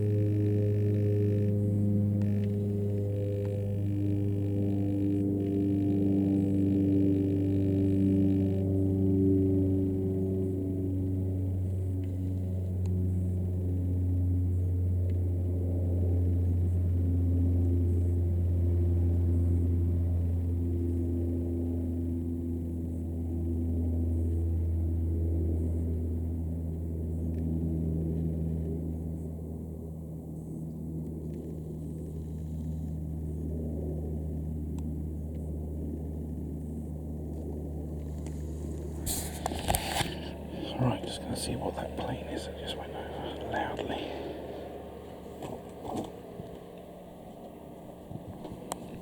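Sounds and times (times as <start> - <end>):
aircraft drone overhead: 0.0 - 49.0.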